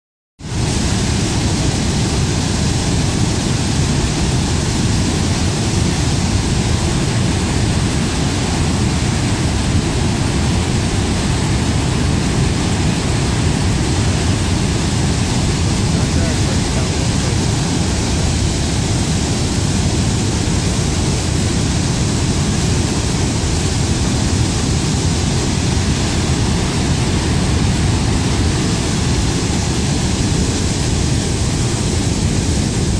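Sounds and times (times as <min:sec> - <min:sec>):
water rushing over spillway: 0:00.4 - 0:32.9.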